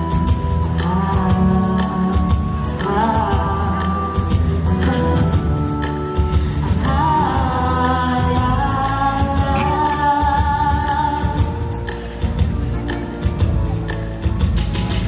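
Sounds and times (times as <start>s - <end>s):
pop backing track: 0.0s - 15.0s.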